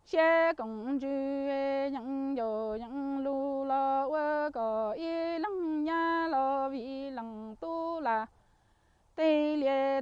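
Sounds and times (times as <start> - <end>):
woman chanting unaccompanied: 0.0 - 8.3, 9.2 - 10.0.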